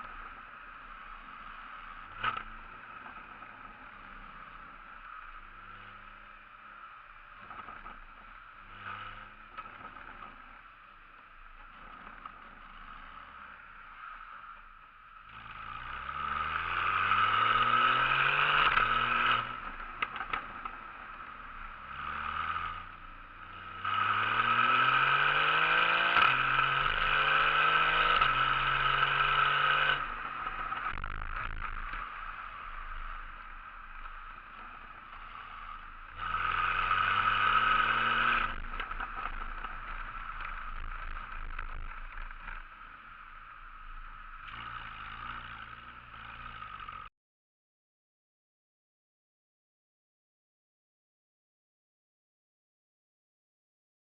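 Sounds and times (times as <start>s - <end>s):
sports car engine accelerating: 0.0s - 14.6s, 15.2s - 47.1s.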